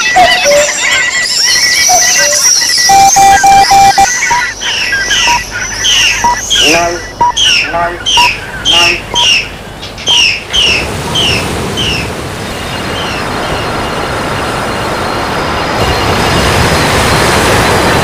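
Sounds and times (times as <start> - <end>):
steady rushing noise: 3.1 - 18.0.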